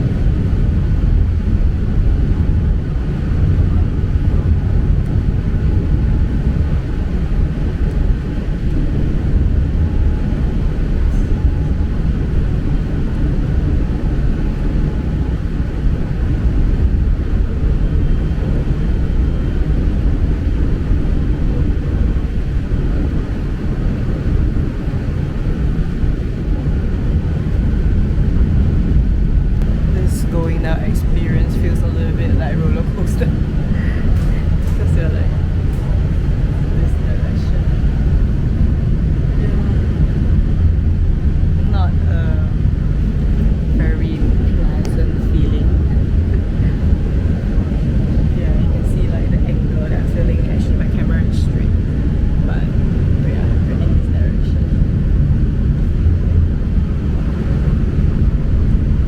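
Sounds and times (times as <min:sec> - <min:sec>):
funicular car rumbling: 0:00.0 - 0:59.0.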